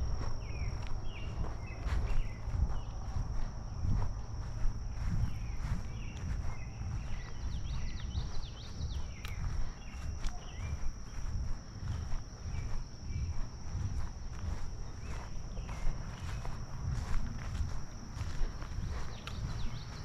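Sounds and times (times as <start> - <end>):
birds chirping: 0.0 - 20.0
footsteps on grass: 0.0 - 20.0
high-pitched insect drone: 0.0 - 20.0.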